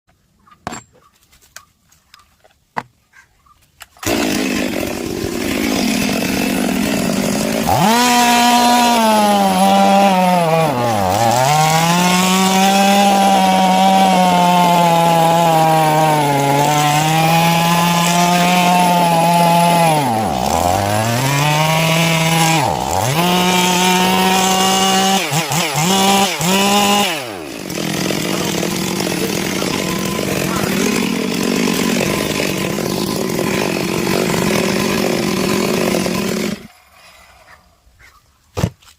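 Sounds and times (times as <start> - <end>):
chainsaw engine revving and idling: 4.0 - 36.8.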